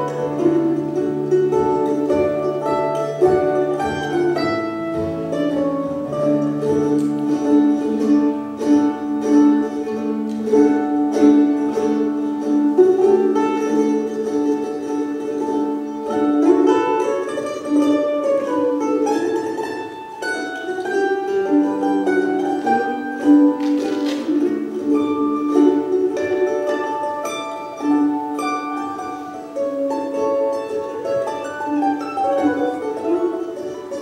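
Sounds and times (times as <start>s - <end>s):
looped plucked string backing: 0.0s - 34.0s
mandolin picking: 0.0s - 34.0s.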